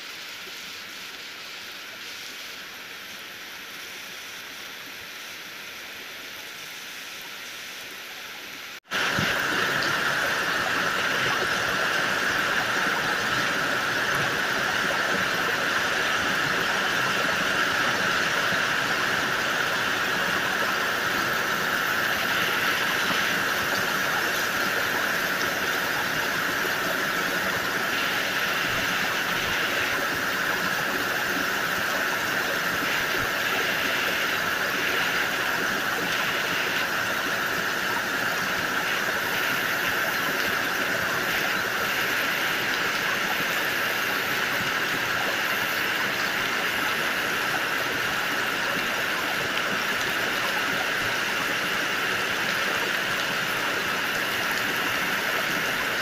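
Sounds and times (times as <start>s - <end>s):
heavy rain on trees: 0.0s - 56.0s.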